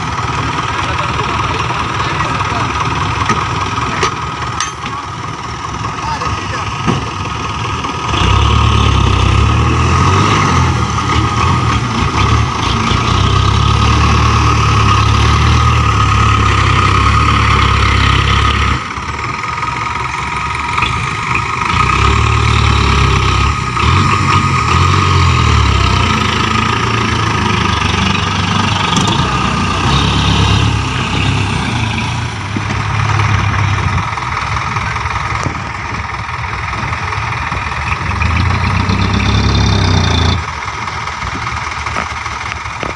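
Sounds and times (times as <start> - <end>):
diesel engines under load: 0.0 - 42.9.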